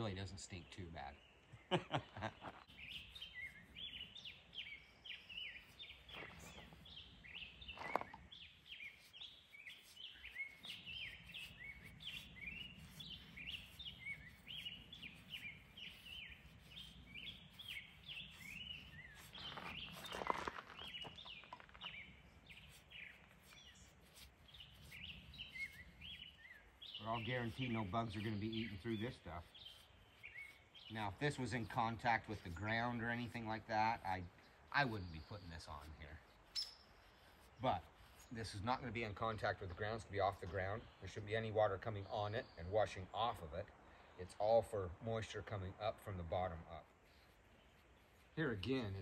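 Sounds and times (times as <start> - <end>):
small bird chirping: 0.1 - 43.5.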